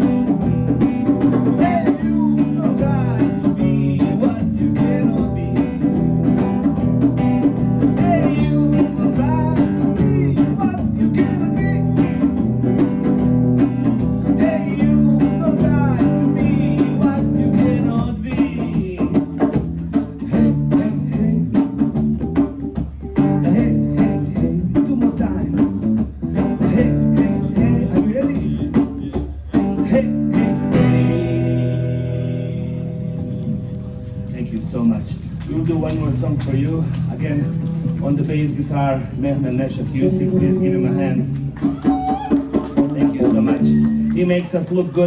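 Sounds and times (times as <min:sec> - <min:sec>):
drum beat: 0:00.0 - 0:31.7, 0:33.0 - 0:45.0
bass guitar: 0:00.0 - 0:45.0
electric guitar: 0:00.0 - 0:45.0.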